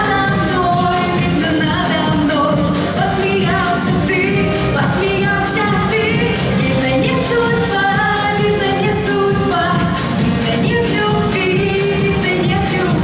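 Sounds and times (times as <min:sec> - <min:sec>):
pop backing track with drum beat: 0:00.0 - 0:13.0
woman singing into microphone: 0:00.0 - 0:13.0.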